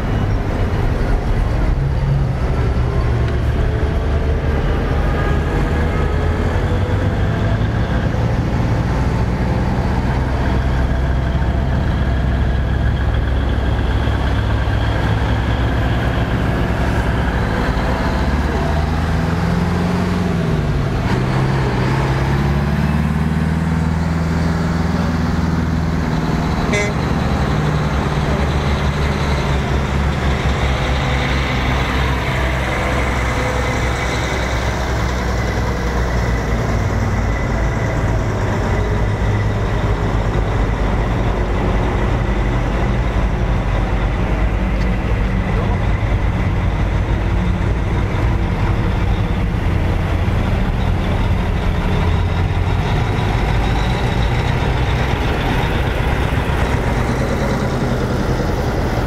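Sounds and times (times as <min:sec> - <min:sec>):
heavy trucks driving past: 0:00.0 - 0:59.0.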